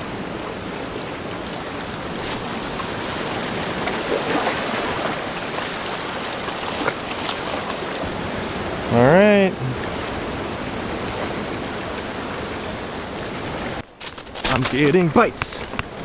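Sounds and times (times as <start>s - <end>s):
ocean surf washing ashore: 0.0s - 16.0s.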